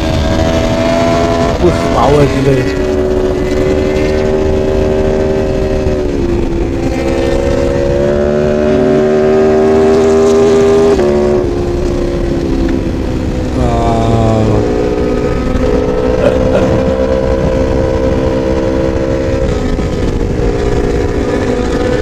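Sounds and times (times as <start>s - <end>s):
motorcycle engine running hard: 0.0s - 22.0s.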